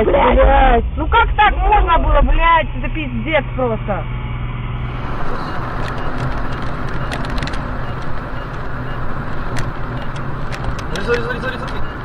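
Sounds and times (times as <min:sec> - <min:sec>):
engine and tyre drone: 0:02.0 - 0:12.0.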